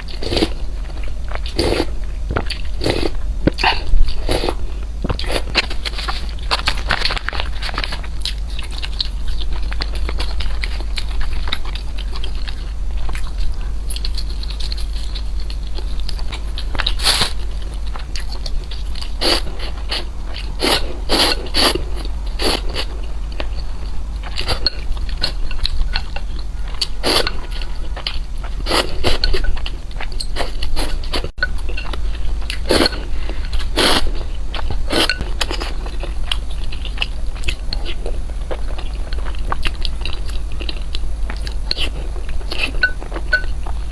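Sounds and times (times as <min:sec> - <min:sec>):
crunching and chewing food: 0:00.0 - 0:43.9
steady low hum: 0:00.0 - 0:43.9.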